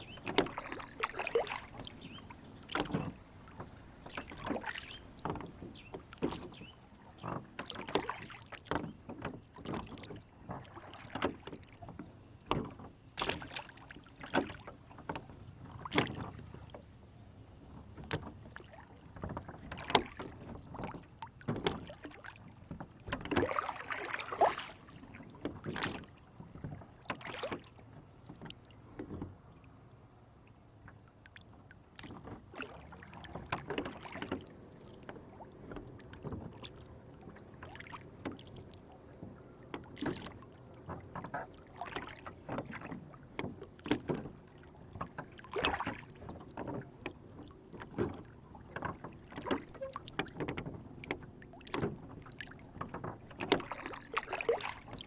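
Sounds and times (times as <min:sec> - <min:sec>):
water slapping against boat hull: 0:00.0 - 0:30.0, 0:30.8 - 0:55.0.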